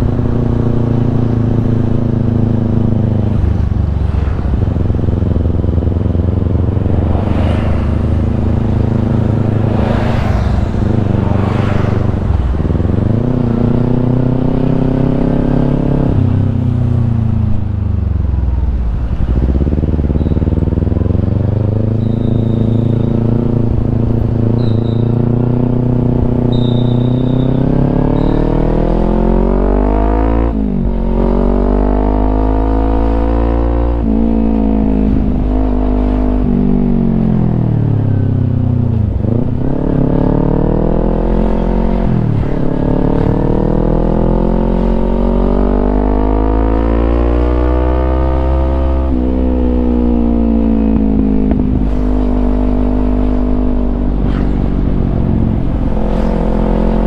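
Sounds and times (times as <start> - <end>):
motorcycle engine revving: 0.0 - 17.7, 19.1 - 57.0.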